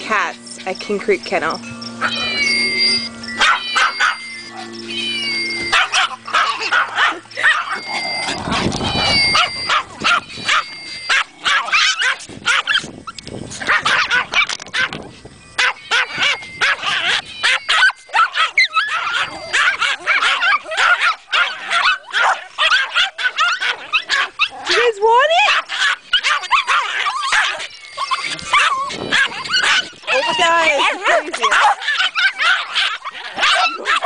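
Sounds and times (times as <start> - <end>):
small dogs barking and yapping: 0.0 - 34.0
dog rising cry: 1.8 - 12.9, 13.6 - 34.0.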